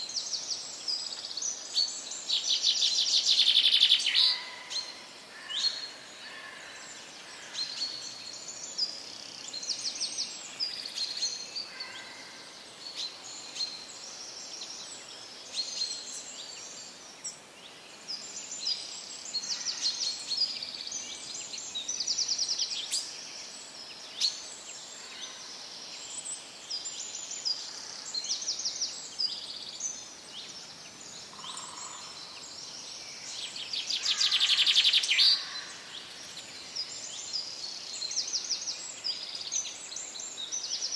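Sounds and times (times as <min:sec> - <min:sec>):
outdoor background noise: 0:00.0 - 0:40.9
small songbirds chirping and trilling: 0:00.0 - 0:40.9.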